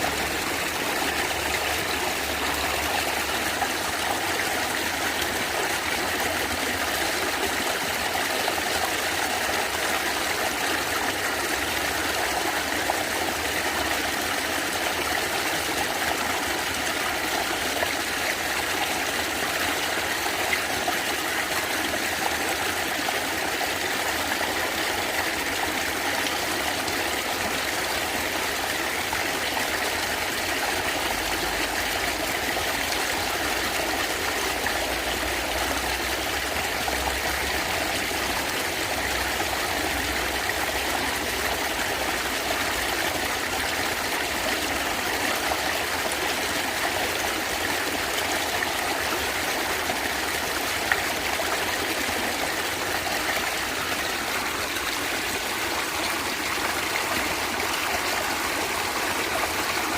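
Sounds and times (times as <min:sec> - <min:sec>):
stream gurgling: 0:00.0 - 0:59.9.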